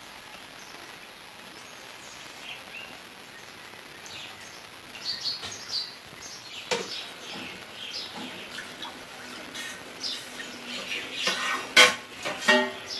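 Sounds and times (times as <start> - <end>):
steady background hiss: 0.0 - 12.9.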